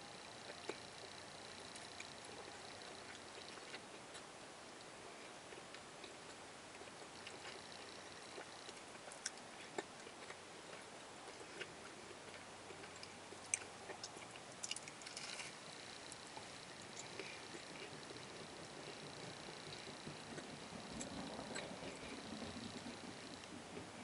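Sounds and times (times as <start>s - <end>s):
person chewing with mouth clicks: 0.2s - 0.9s, 1.6s - 23.8s.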